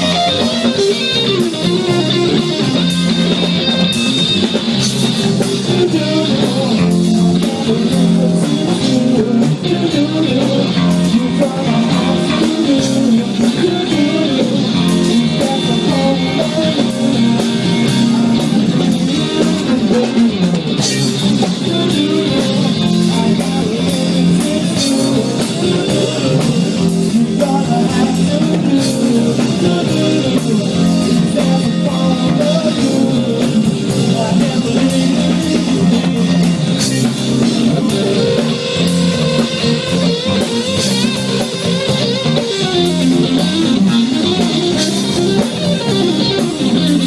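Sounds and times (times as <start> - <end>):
bass: 0.0 - 47.0
drum kit: 0.0 - 47.0
guitar melody: 0.0 - 47.0.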